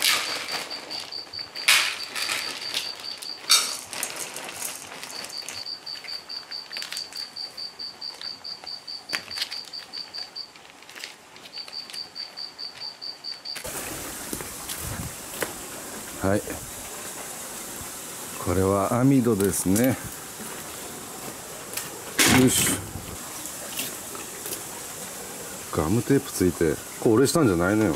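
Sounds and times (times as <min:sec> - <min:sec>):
cats eating from dishes: 0:00.0 - 0:27.9
insect chirping: 0:00.0 - 0:27.9.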